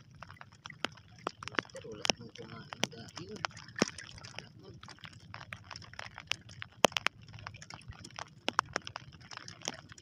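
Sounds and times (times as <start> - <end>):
rush of wind and water: 0.0 - 10.0.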